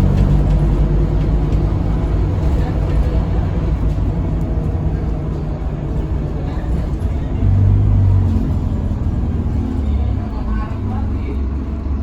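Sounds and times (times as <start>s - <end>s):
bus diesel engine drone: 0.0s - 12.0s
road noise rumble: 0.0s - 12.0s.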